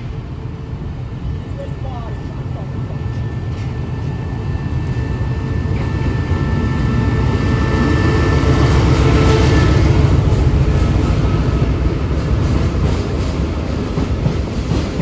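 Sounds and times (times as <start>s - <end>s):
locomotive engine droning: 0.0s - 15.0s.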